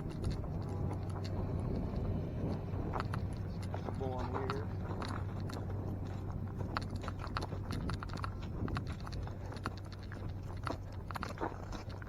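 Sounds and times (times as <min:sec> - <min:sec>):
cattle crunching corn: 0:00.0 - 0:12.0
low hum: 0:00.0 - 0:12.0.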